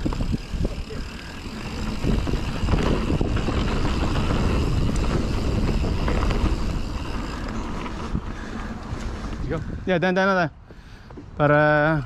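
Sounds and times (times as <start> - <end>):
wind buffeting microphone: 0.0 - 11.4
bike rattles and clicks: 0.0 - 12.0
bike tyre rumble: 0.0 - 12.0.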